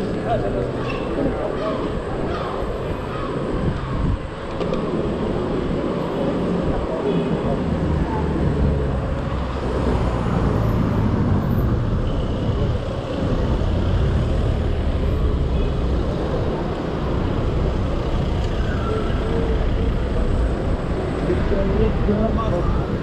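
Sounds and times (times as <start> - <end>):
road noise: 0.0 - 23.0
rumbling wind: 0.0 - 23.0.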